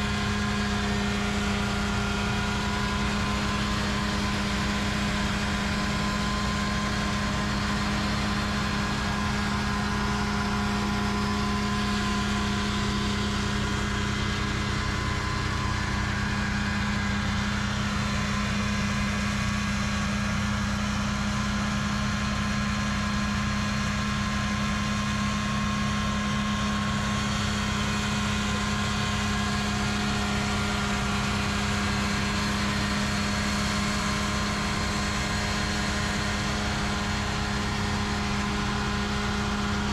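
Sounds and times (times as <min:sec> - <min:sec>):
engines humming steadily: 0:00.0 - 0:39.9.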